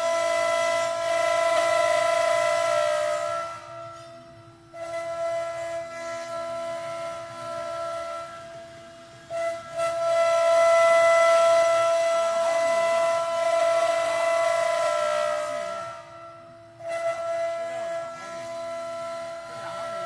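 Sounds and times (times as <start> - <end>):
router spindle whining: 0.0 - 20.0.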